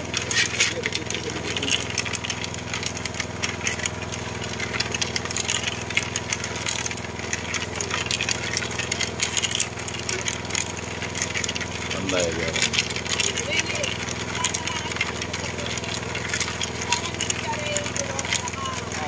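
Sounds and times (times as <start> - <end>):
machine engine running steadily: 0.0 - 19.0.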